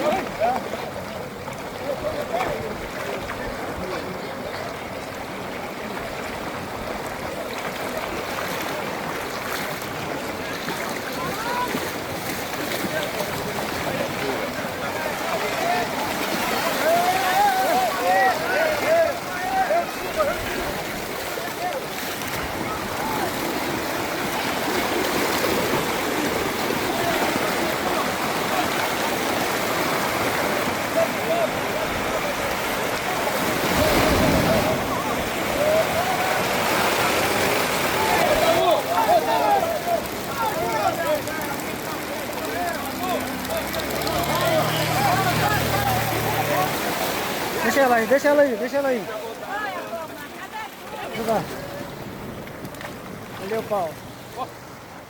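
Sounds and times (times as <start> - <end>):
surf rushing at the shore: 0.0 - 55.0.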